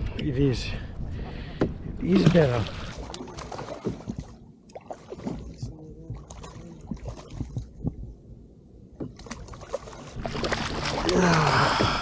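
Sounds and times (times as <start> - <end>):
water lapping against kayak hull: 0.0 - 12.0.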